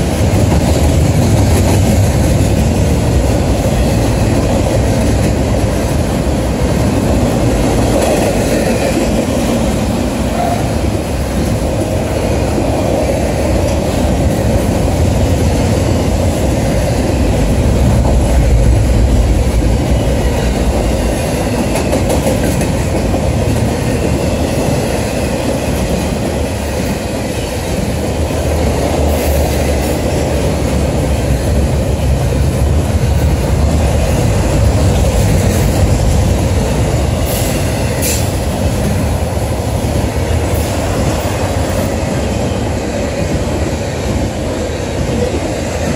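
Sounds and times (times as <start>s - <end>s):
freight train wheels clacking on rails: 0.0s - 45.9s.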